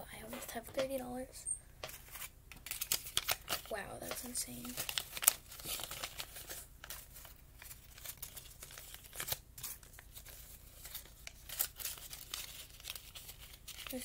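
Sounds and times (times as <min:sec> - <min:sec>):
paper banknotes rustling: 0:01.8 - 0:14.0.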